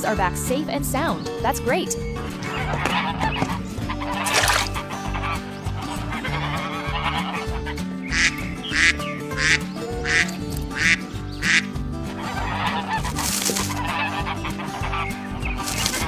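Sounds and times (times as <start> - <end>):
background music: 0.0 - 16.0
waterfowl quacking: 2.4 - 16.0.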